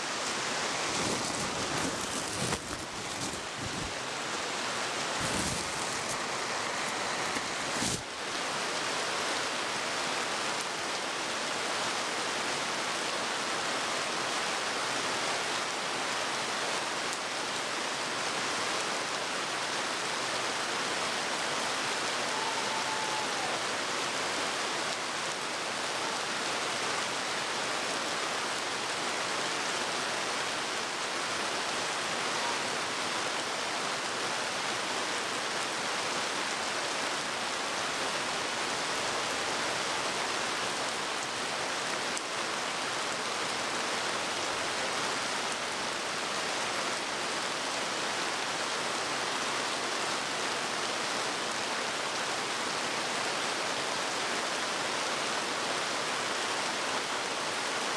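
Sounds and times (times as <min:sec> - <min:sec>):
heavy rain on pavement: 0:00.0 - 0:57.9.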